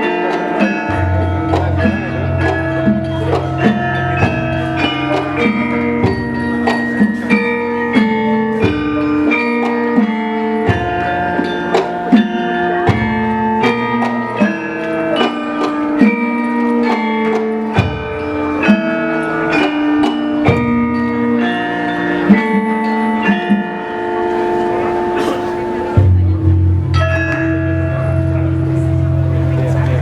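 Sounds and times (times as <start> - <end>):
gamelan music: 0.0 - 30.0.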